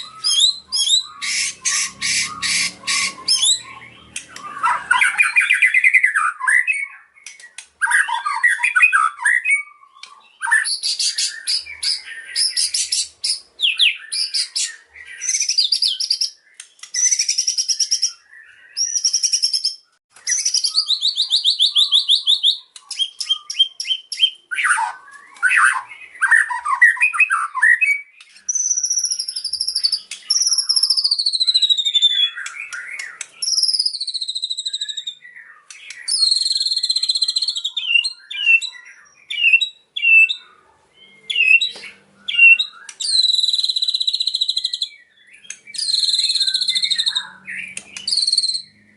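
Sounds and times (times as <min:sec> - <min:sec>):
bird singing trills and chatter: 0:00.0 - 0:48.9
bird whistles gliding downward: 0:00.0 - 0:48.9.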